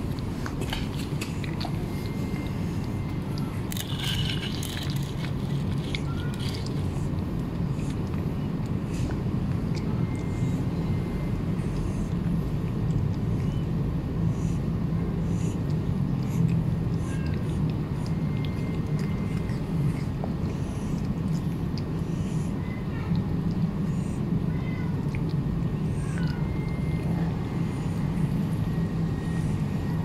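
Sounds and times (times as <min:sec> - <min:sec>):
cat chewing and lapping food: 0:00.0 - 0:30.0
steady low hum: 0:00.0 - 0:30.0.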